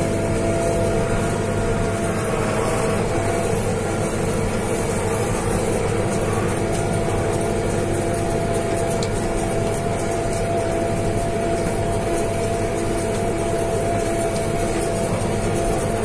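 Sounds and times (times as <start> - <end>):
steady whine: 0.0 - 16.0
tractor engine and hay baler: 0.0 - 16.0.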